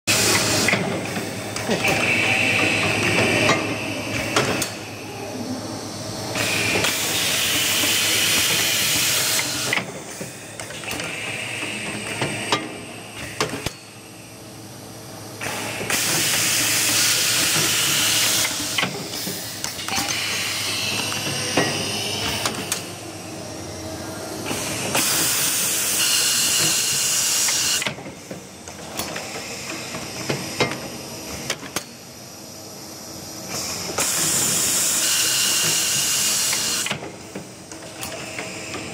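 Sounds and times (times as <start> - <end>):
steady machine hum: 0.1 - 38.9.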